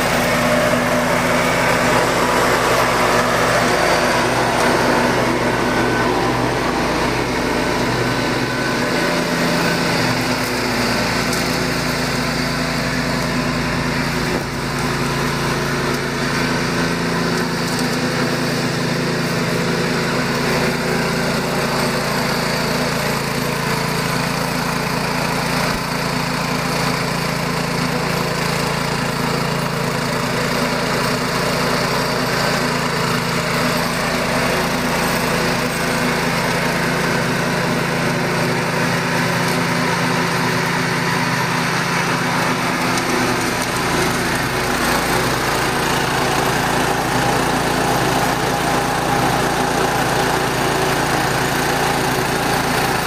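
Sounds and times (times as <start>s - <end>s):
garden tractor engine running: 0.0s - 53.0s.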